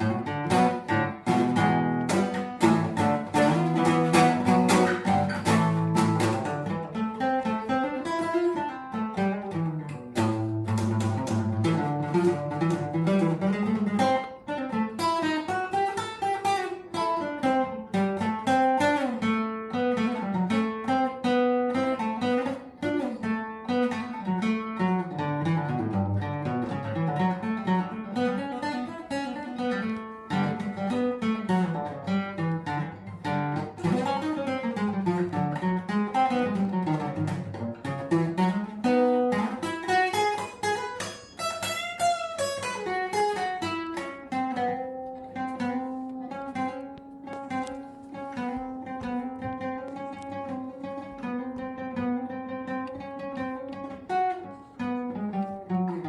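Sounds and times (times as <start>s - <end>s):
acoustic guitar melody: 0.0s - 56.0s.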